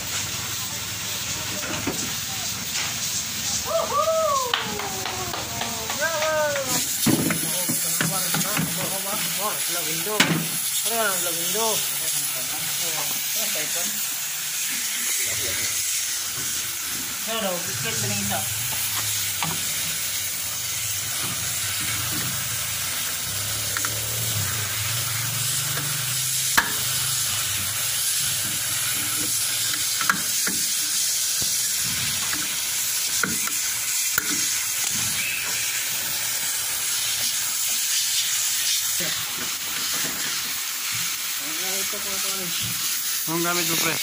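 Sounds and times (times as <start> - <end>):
pressure washer jet hissing: 0.0 - 44.0.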